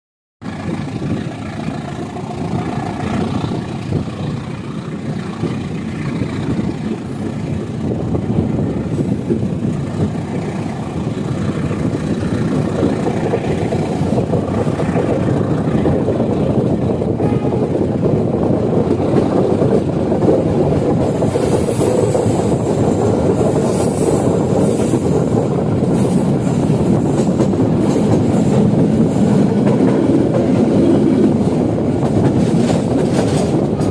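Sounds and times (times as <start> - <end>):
train wheels clattering: 0.4 - 33.9.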